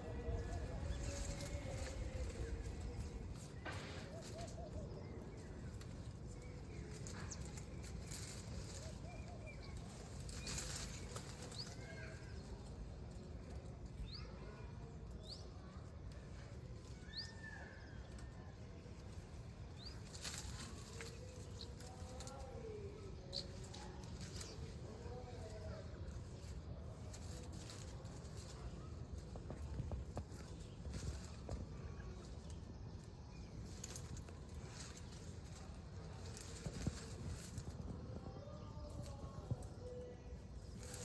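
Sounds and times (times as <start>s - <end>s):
rustling: 0.0s - 41.0s
small birds chirping: 0.0s - 41.0s.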